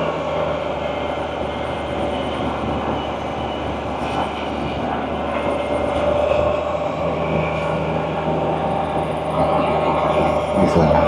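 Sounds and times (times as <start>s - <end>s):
motorcycle engine drone: 0.0s - 11.0s
wind and road noise: 0.0s - 11.0s.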